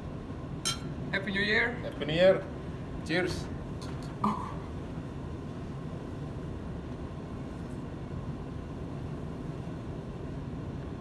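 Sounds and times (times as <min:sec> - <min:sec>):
low rumble of ship machinery: 0:00.0 - 0:11.0.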